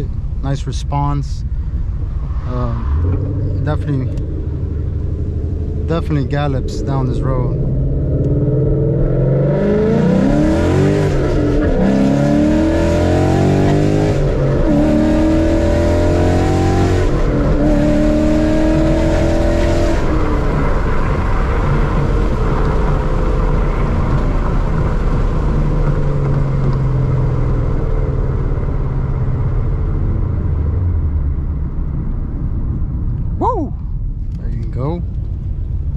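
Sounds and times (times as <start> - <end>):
car engine accelerating hard: 0.0 - 33.4.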